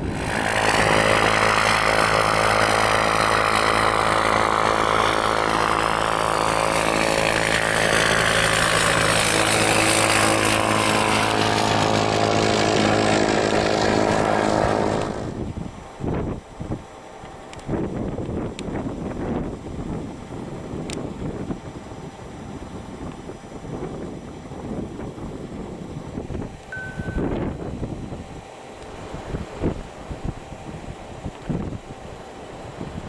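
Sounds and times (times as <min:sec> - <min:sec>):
aircraft engines passing: 0:00.0 - 0:33.0.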